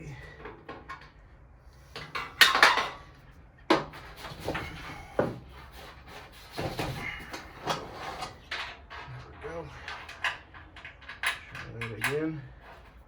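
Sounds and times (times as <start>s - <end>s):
sheet metal clanking and rattling: 1.9s - 13.0s.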